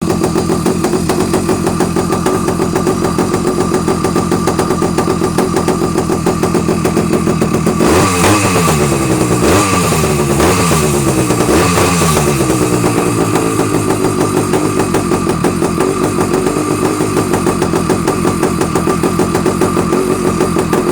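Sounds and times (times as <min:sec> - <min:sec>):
motorbike engine idling and revving: 0:00.0 - 0:20.9.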